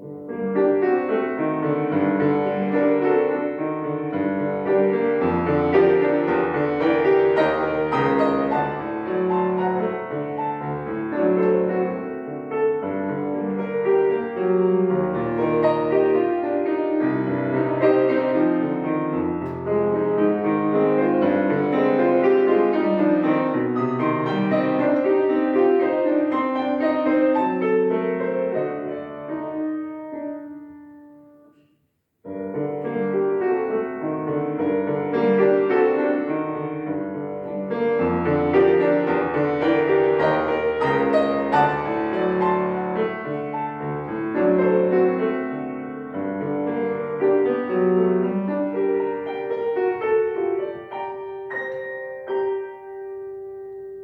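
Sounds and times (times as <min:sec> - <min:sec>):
solo piano piece: 0:00.0 - 0:54.0.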